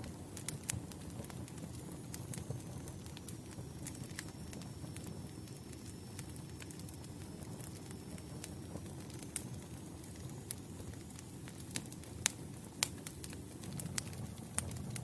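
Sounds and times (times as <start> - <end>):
campfire flames rumbling: 0.0 - 15.0
logs crackling and popping: 0.0 - 15.0.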